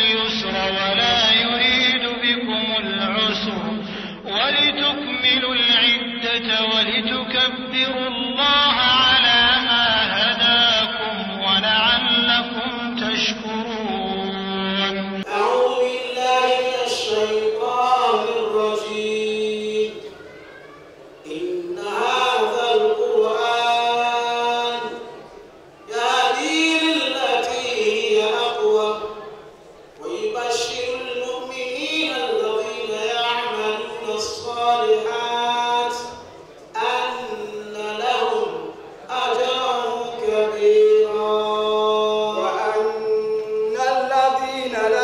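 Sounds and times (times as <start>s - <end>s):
man chanting recitation: 0.0s - 20.3s, 21.2s - 45.0s.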